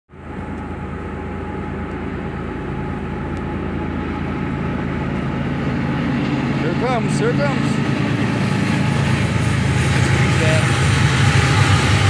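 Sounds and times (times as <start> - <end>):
low hum: 0.1 - 12.0
train wheels rumbling on tracks: 0.1 - 12.0.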